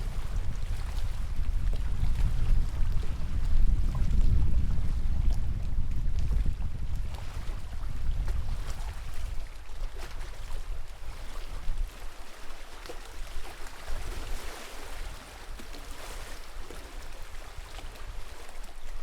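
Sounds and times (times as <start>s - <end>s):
lake water lapping: 0.0s - 19.0s
wind rumbling on microphone: 0.0s - 19.0s.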